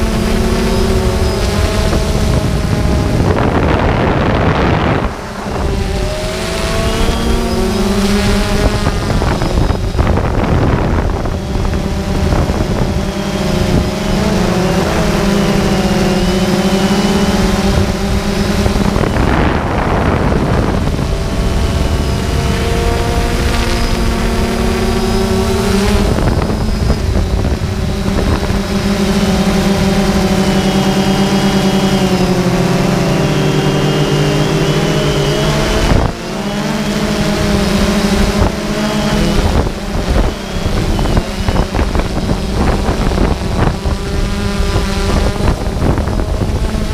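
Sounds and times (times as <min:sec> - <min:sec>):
drone propellers whining: 0:00.0 - 0:46.9
wind on microphone: 0:00.0 - 0:46.9.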